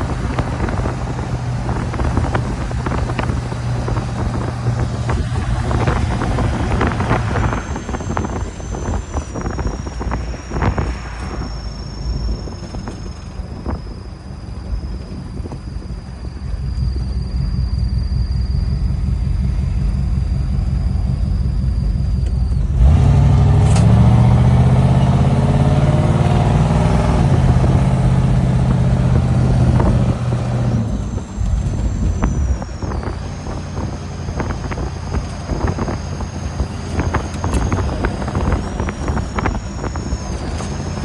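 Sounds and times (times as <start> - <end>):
thin high whine: 0.0 - 23.8, 24.8 - 41.0
car engine while driving: 0.0 - 41.0.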